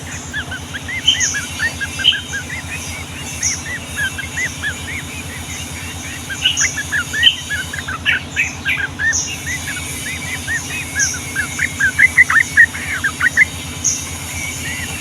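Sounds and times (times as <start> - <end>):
bulbul whistled song: 0.0 - 15.0
low throbbing hum: 0.0 - 15.0.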